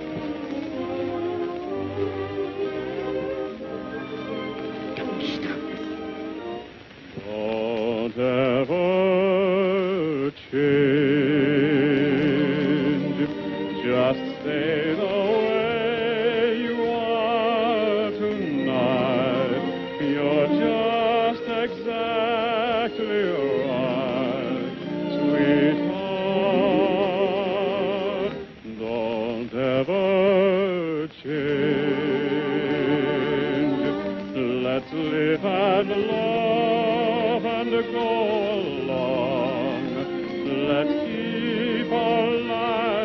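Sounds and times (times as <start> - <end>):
orchestral music with vibrato melody: 0.0 - 6.8, 11.0 - 28.5, 31.3 - 43.0.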